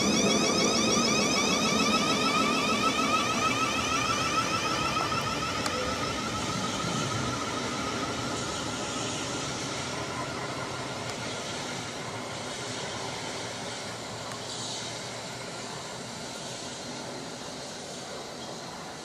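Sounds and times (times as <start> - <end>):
train traction motors whining: 0.0 - 19.0.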